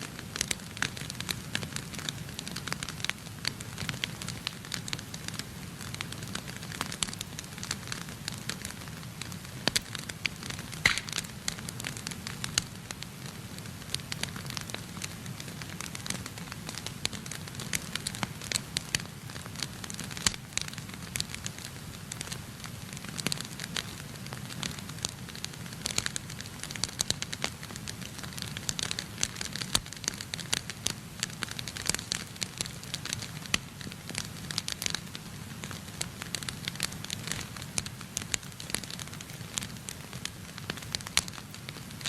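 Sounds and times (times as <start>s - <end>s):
fire crackling and popping: 0.0s - 42.0s
fire flames rumbling: 0.2s - 42.0s.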